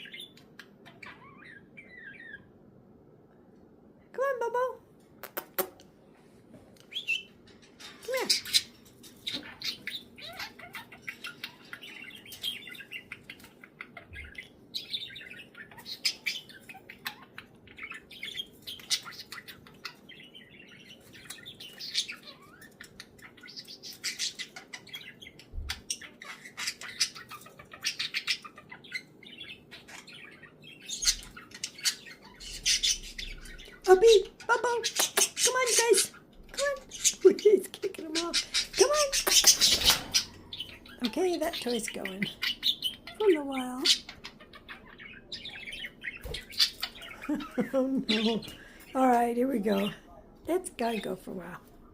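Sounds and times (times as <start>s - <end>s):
budgerigars chirping and chattering: 0.0s - 2.6s, 6.8s - 51.7s.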